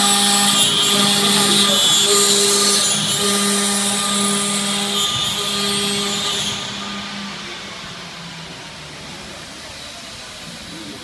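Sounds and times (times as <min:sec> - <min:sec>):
high hiss of cutting metal: 0:00.0 - 0:11.0
router spindle whine: 0:00.0 - 0:11.0.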